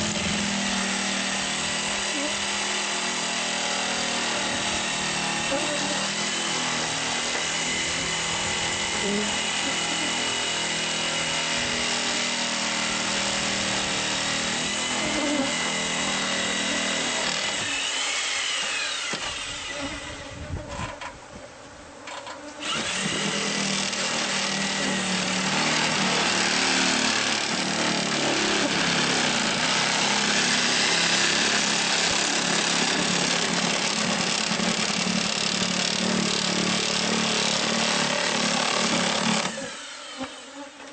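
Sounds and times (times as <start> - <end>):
power tool cutting wall: 0.0 - 21.1, 22.1 - 40.9.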